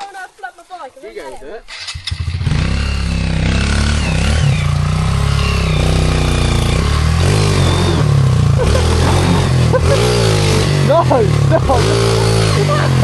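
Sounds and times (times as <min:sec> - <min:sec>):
pit bike engine revving: 0:01.7 - 0:13.0.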